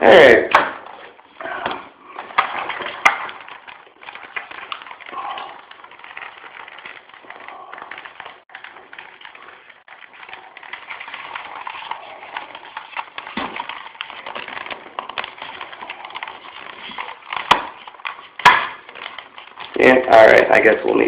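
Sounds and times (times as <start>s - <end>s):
wire scraping on plastic helmet: 0.5s - 21.0s.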